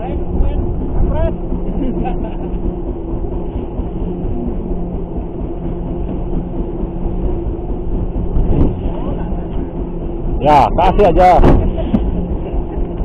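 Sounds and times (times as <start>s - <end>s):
boat engine humming: 0.0s - 13.0s
water: 0.0s - 13.0s
wind: 0.0s - 13.0s.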